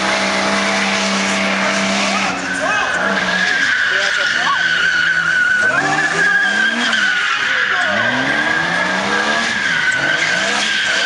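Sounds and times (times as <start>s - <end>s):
car engine revving: 0.0s - 11.0s
tyres squealing: 0.9s - 11.0s.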